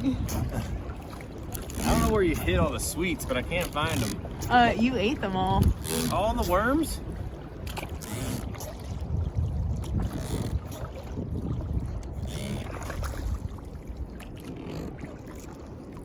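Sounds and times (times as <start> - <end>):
water splashing around boat: 0.0 - 16.0
wind rumbling on microphone: 0.0 - 16.0.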